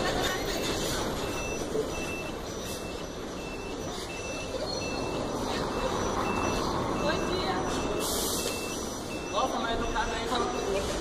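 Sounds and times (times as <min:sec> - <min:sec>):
bus and traffic rumbling on cobblestones: 0:00.0 - 0:11.0
high-pitched beeping tone: 0:00.0 - 0:11.0.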